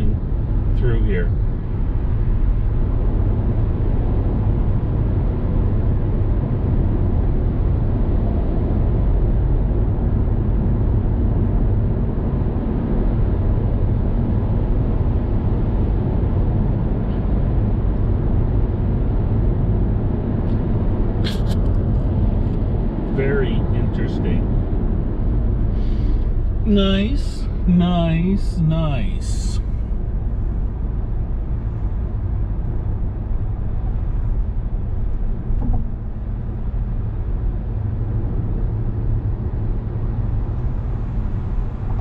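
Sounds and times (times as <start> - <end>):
car road and engine noise: 0.0 - 42.0.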